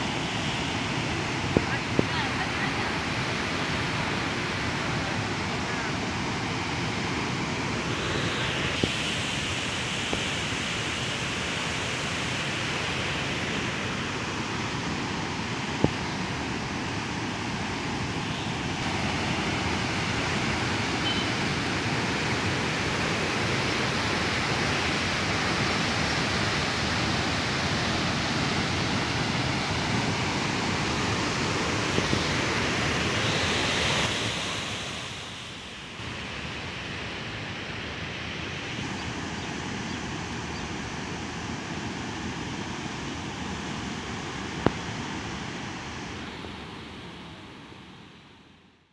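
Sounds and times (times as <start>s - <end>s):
floodwater rushing and churning: 0.0s - 46.9s.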